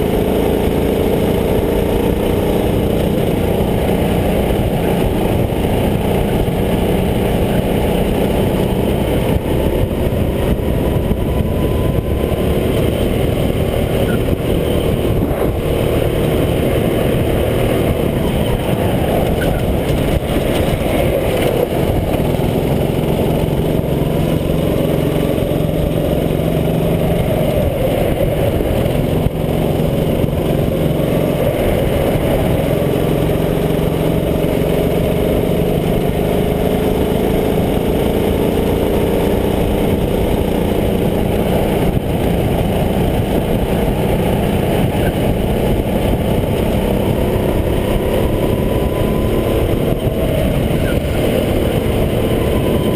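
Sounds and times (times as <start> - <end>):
go-kart engine revving: 0.0 - 52.9.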